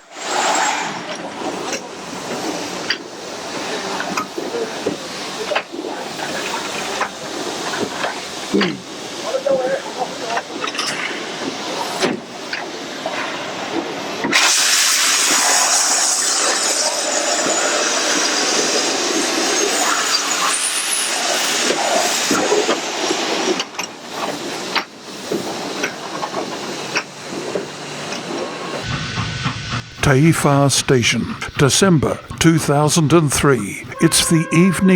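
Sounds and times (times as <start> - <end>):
steam locomotive hissing: 0.0 - 34.9.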